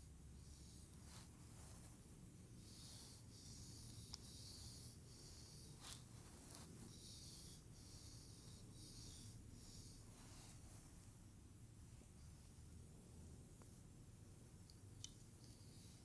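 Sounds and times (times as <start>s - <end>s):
soft strokes through hair: 0.0s - 14.0s.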